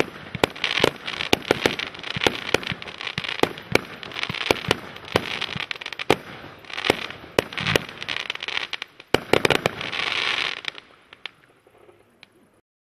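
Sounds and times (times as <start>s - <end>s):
firework bangs: 0.0s - 12.1s
crackling hiss of fireworks: 0.0s - 12.6s.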